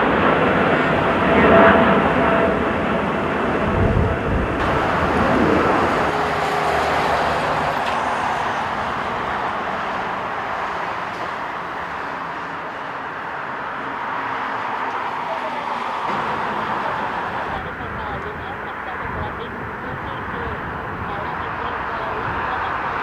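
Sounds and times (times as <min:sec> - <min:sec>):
jet engine rush: 0:00.0 - 0:23.0.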